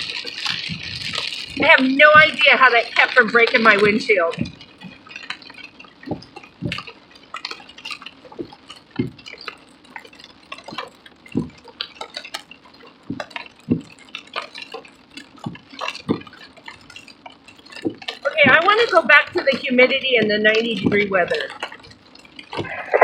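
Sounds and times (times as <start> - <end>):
rain on car roof: 0.0 - 23.0.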